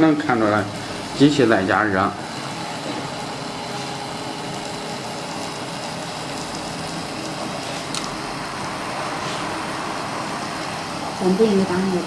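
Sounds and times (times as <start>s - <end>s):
furnace hissing: 0.0s - 12.0s.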